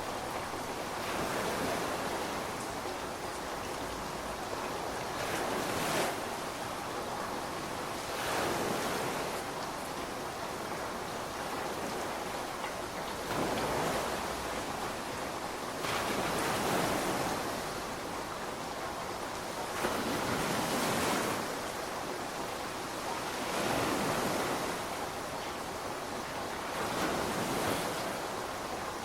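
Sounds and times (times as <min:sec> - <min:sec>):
steady rainfall hiss: 0:00.0 - 0:29.0.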